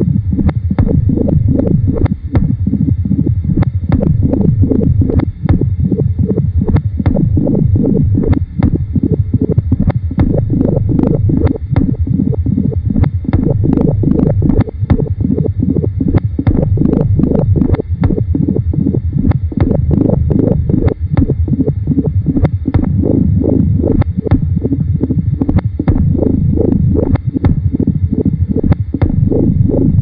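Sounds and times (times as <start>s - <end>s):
loud low rumble: 0.0s - 30.0s
sharp clicks popping: 0.4s - 18.3s, 18.9s - 24.8s, 25.4s - 30.0s.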